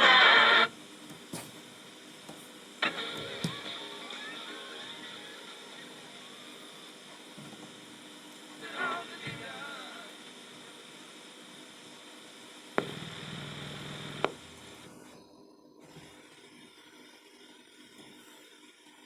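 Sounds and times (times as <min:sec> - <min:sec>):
tape hiss: 0:00.0 - 0:19.0.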